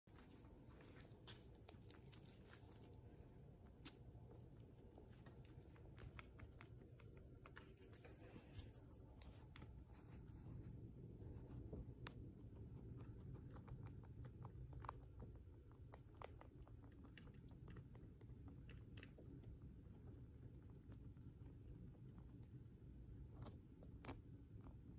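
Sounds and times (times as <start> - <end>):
guinea pig crunching food: 0.1 - 24.9
low steady rumble: 0.1 - 24.9.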